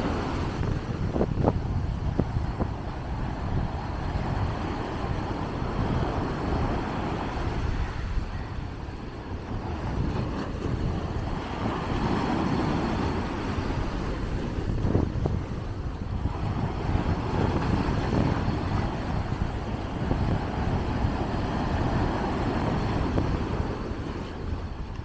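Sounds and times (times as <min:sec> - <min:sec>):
surf breaking on a beach: 0:00.0 - 0:25.0.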